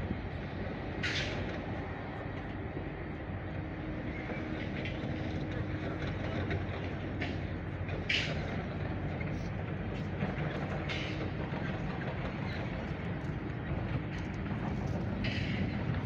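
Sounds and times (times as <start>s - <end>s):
jet engines low rumble: 0.0s - 16.0s.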